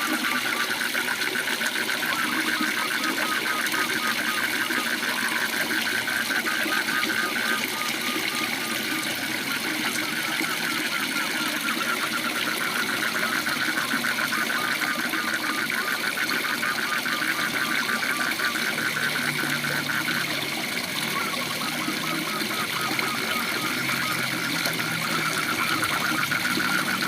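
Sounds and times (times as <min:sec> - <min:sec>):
frogs calling: 0:00.0 - 0:27.0.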